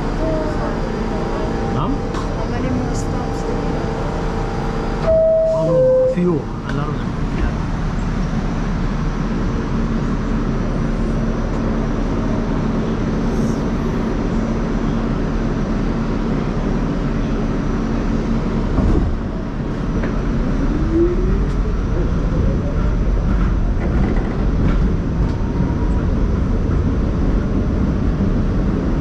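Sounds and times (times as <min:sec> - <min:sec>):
subway train rumble and hum: 0:00.0 - 0:29.0.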